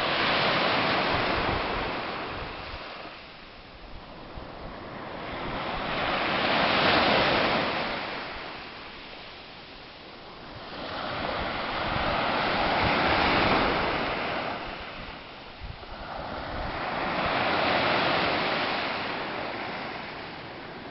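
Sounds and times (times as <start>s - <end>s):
small waves breaking on beach: 0.0s - 20.9s.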